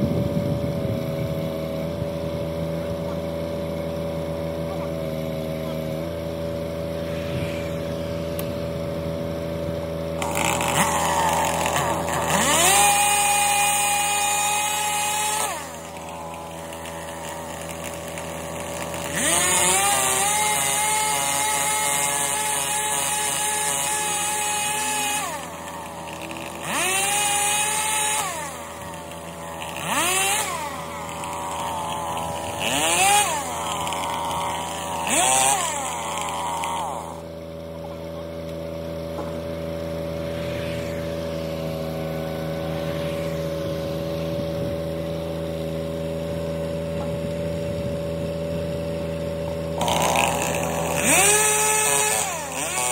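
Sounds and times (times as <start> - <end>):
chainsaw engine idle: 0.0 - 40.3, 41.1 - 52.9
chainsaw cutting limbs: 0.1 - 52.9.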